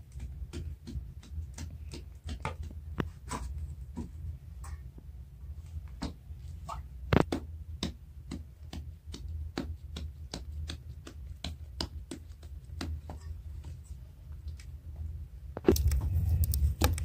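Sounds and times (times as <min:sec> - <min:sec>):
hands patting dough: 0:00.0 - 0:14.7, 0:15.6 - 0:17.0
low steady hum: 0:00.0 - 0:17.0.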